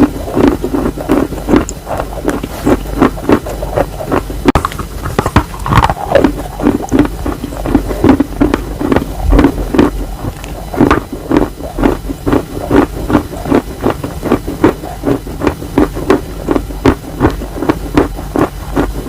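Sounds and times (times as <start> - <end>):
chewing wet chalk: 0.0 - 19.0.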